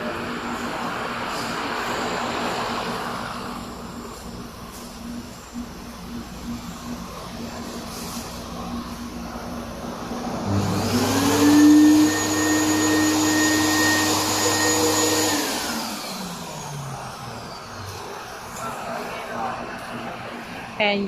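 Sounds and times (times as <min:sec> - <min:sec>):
blower motor humming: 0:00.0 - 0:21.0.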